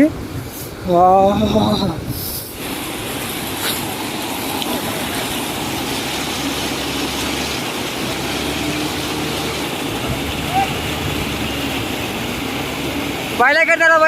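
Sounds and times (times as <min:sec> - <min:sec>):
fast-flowing river rushing: 0:02.5 - 0:14.0.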